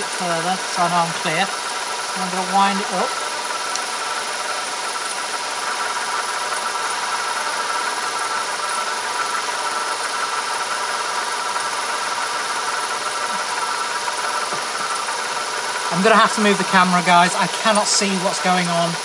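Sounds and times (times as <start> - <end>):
metal lathe whine: 0.0 - 19.0.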